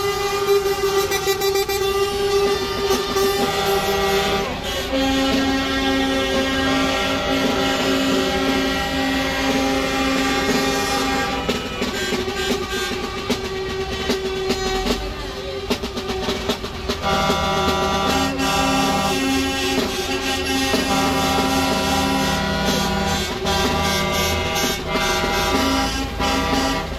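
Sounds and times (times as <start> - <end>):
truck horns blasting: 0.0 - 15.1, 15.8 - 26.9.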